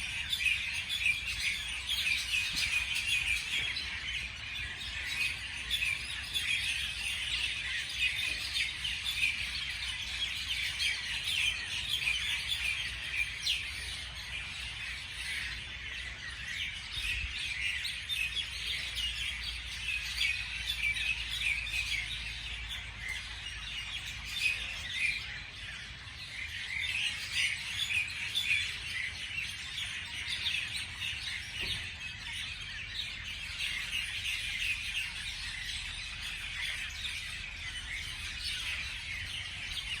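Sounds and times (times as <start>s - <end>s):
small birds chirping and singing: 0.0s - 40.0s.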